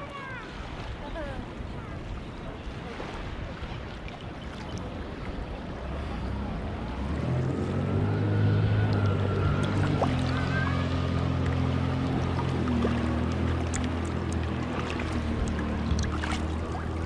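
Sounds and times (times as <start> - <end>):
water noise from boat: 0.0 - 17.0.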